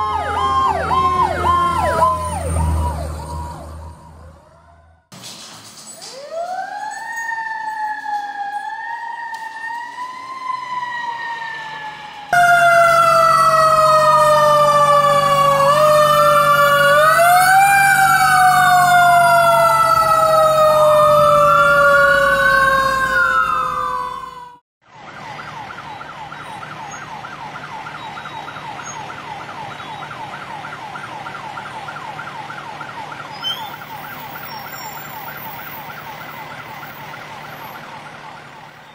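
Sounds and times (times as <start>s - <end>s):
wailing sirens: 0.0s - 5.1s, 6.0s - 38.9s
warbling yelp siren: 0.0s - 5.1s, 6.1s - 38.9s.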